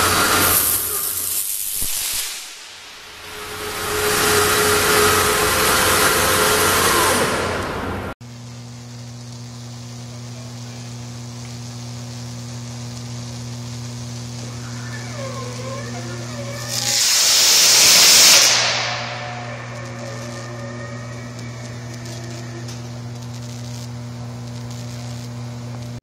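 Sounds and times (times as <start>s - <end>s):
loud hiss: 0.0s - 25.5s
substation electrical hum: 2.3s - 26.0s.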